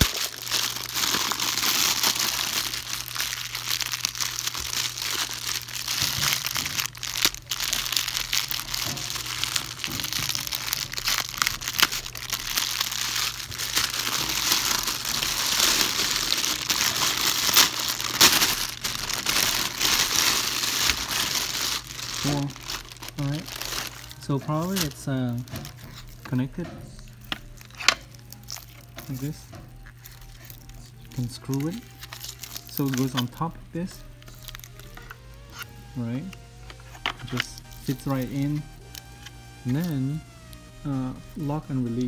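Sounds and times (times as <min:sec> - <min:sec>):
plastic bag crinkling: 0:00.0 - 0:42.0.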